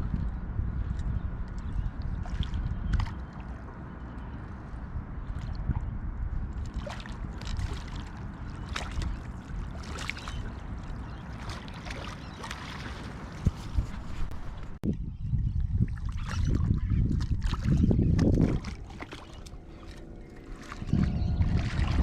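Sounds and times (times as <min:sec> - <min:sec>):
steady low rumble: 0:00.0 - 0:11.6, 0:13.1 - 0:22.0
water lapping against boat hull: 0:00.0 - 0:22.0.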